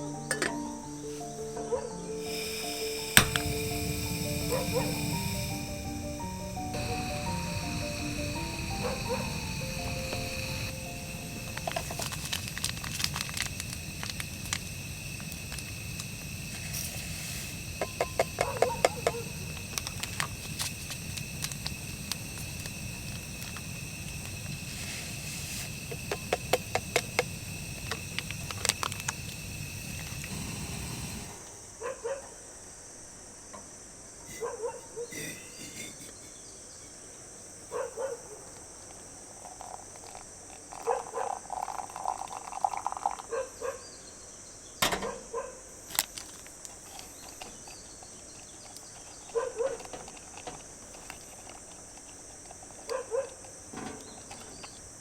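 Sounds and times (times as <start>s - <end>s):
night insects chirring: 0.0s - 55.0s.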